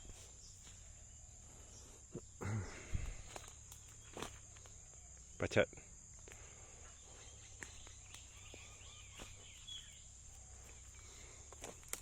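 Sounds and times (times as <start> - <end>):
faint bird chirps: 0.0 - 11.5
high-pitched insect drone: 0.0 - 12.0.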